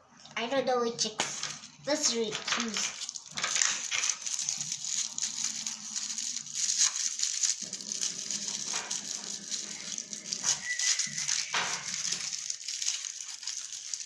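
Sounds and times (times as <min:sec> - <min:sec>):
plastic packaging crinkling: 0:01.1 - 0:14.0.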